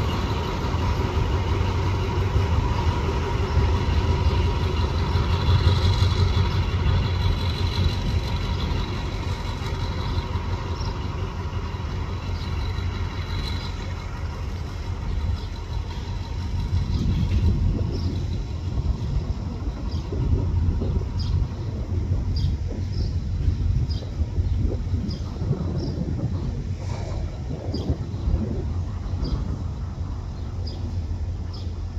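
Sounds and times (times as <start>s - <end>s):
locomotive engines rumbling: 0.0s - 31.9s.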